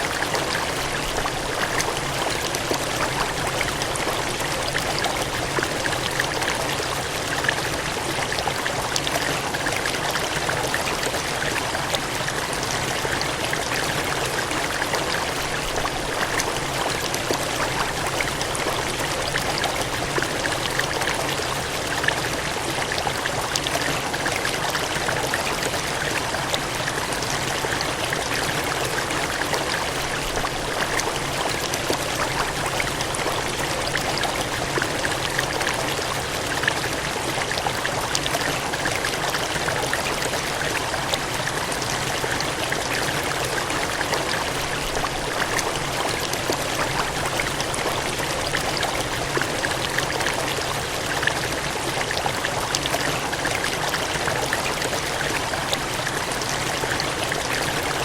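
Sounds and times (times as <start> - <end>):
cascading water: 0.0 - 58.0.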